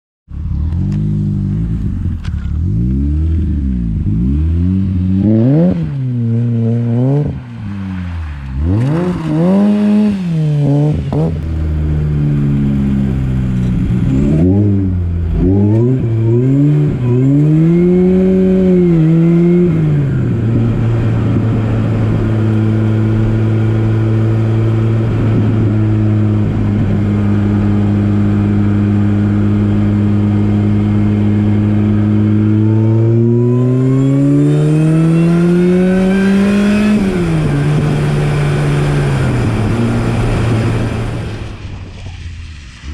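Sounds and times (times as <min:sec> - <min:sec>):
car engine revving: 0:00.3 - 0:42.9.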